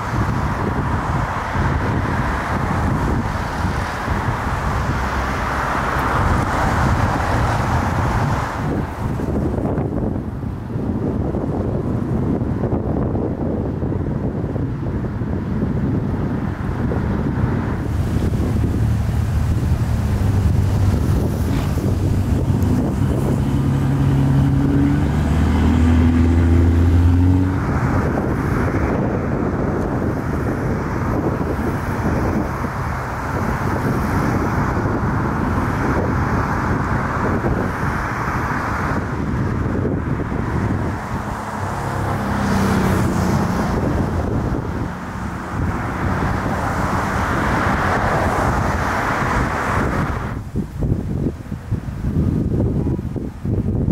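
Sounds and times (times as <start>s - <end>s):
engine humming: 0.0s - 53.9s
motor traffic: 0.0s - 53.9s
wind: 0.0s - 53.9s.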